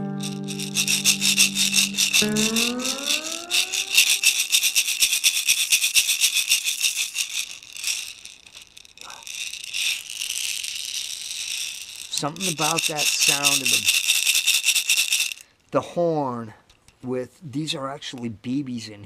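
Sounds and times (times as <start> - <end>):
horn rattle shaken: 0.0 - 15.5.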